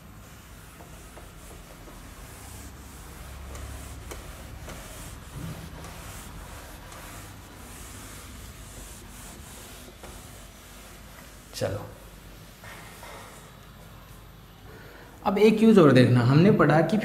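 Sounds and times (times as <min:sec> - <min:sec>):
cloth wiping a whiteboard: 0:00.0 - 0:14.3.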